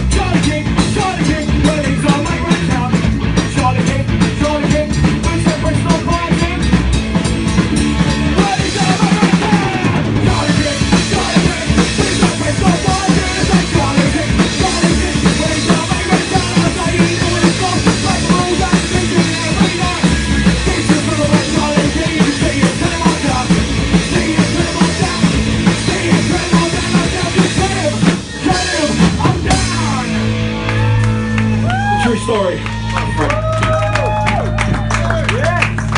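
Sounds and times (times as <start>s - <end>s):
drum kit beat: 0.0s - 35.9s
live rock band playing: 0.0s - 35.9s.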